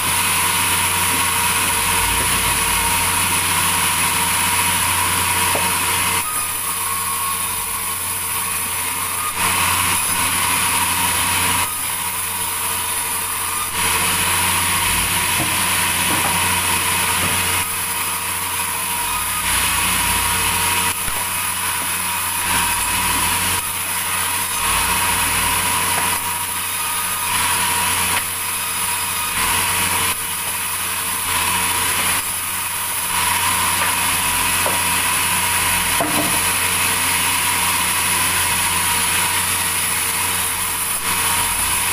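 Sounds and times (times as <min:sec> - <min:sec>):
sawmill saw cutting timber: 0:00.0 - 0:41.9.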